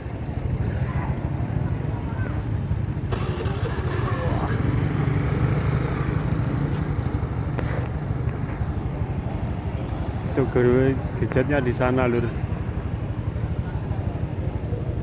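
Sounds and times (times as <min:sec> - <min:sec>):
faint voices: 0:00.0 - 0:15.0
motorcycle engine running: 0:00.0 - 0:15.0.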